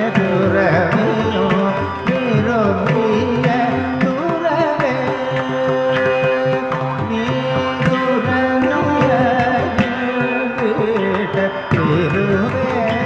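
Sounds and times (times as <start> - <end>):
person singing ornamented melody: 0.0 - 13.0.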